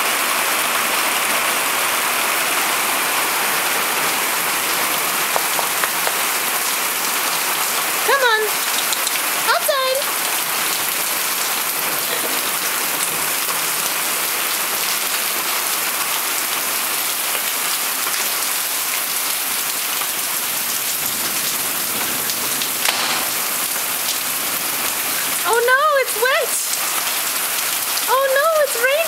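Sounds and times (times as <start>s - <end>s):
torrential rain on paving and roofs: 0.0s - 29.0s.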